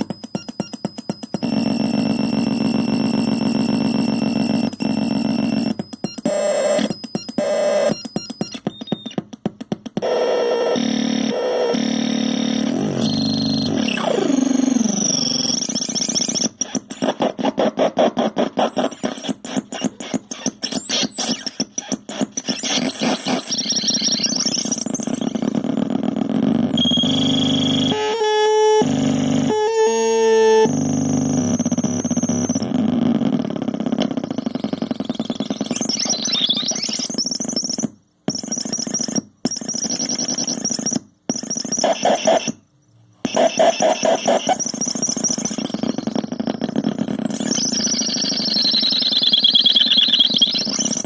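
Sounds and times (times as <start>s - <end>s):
harsh buzzing synth drone: 0.8s - 8.0s, 10.0s - 36.9s, 43.3s - 51.0s.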